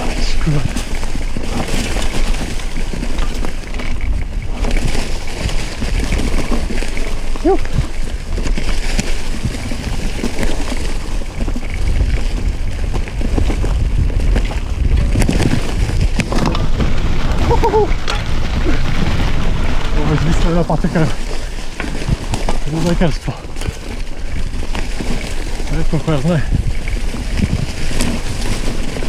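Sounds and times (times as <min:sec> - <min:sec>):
bike tyres clattering over stones: 0:00.0 - 0:29.0
wind on microphone: 0:00.0 - 0:29.0.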